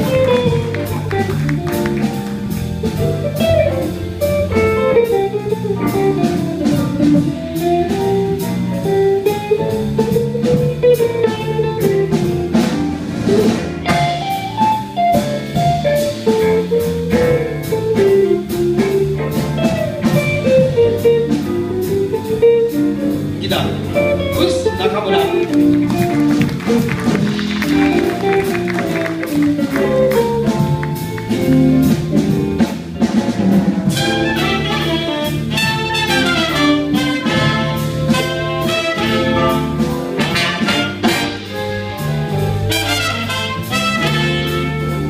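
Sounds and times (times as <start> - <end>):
jazz band playing: 0.0 - 45.0.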